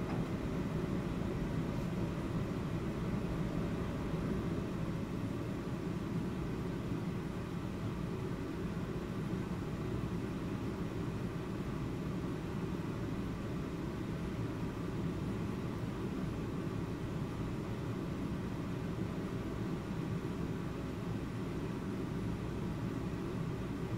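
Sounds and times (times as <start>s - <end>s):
low rumbling room ambience: 0.0s - 23.9s.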